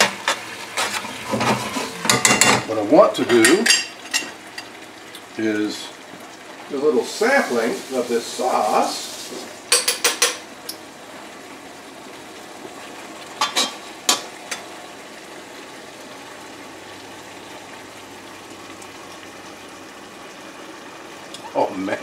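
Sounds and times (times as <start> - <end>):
sauce simmering and sizzling: 0.0 - 22.0.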